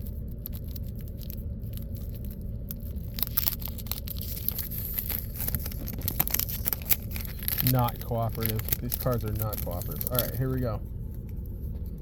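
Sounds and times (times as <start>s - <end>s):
wax paper tearing and crinkling: 0.0s - 10.8s
steady low hum: 0.0s - 12.0s.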